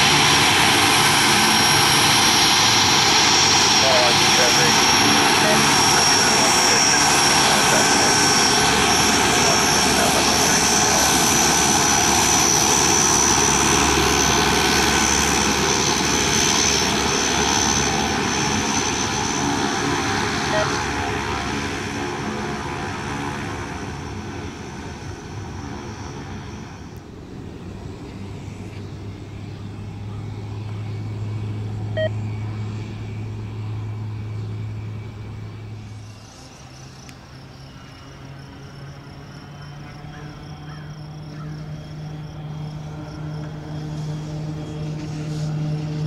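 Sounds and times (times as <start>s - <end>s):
turboprop propeller hum: 0.0s - 46.0s.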